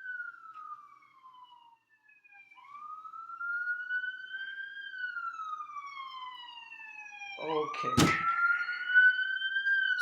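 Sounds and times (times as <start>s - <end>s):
emergency siren wailing: 0.0s - 10.0s.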